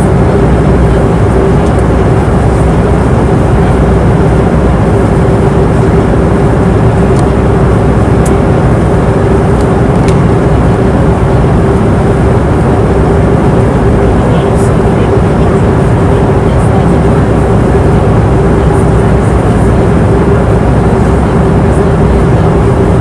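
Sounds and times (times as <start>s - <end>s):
airplane cabin engine and airflow noise: 0.0s - 23.0s.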